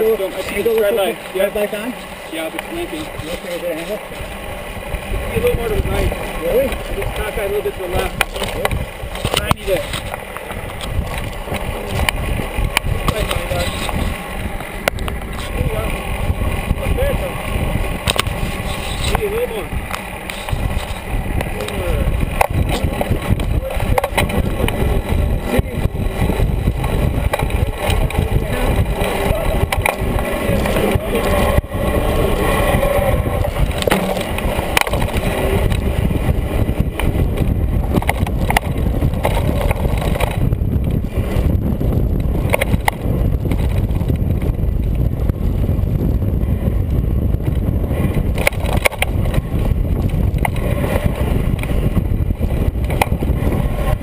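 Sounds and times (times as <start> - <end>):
bike tyres rumbling on dirt: 0.0 - 54.0
bike knocks and clatter: 5.9 - 15.8, 18.0 - 25.6, 26.3 - 31.8, 32.6 - 46.0, 46.8 - 54.0.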